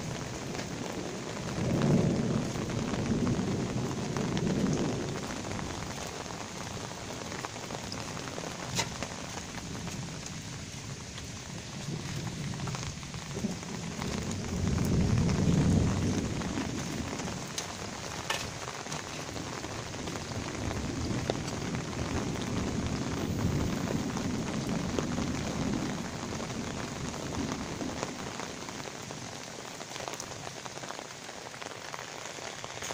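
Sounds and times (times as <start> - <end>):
low thunder rumbling: 0.0 - 29.0
heavy rain falling: 0.0 - 32.9
raindrops hitting a surface: 0.0 - 32.9.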